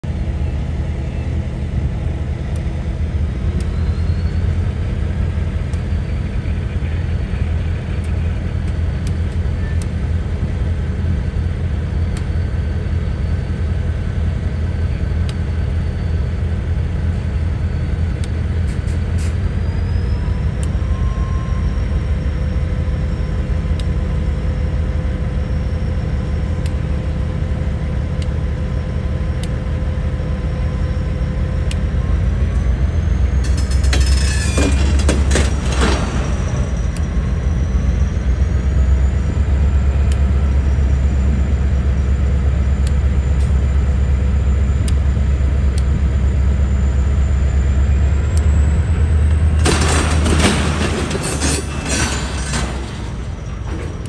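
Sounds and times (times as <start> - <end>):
heavy engine rumbling: 0.0 - 54.0
engine whine rising in pitch: 0.1 - 34.3, 35.3 - 50.6.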